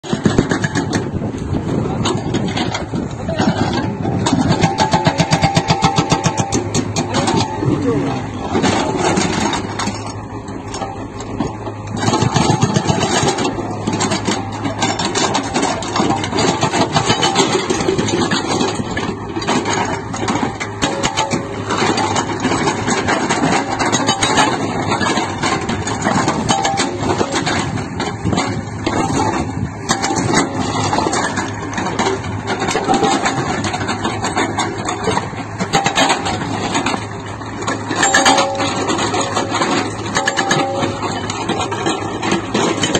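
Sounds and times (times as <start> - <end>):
diesel engine under load: 0.0 - 42.9
hydraulic breaker hammering rock: 0.0 - 42.9.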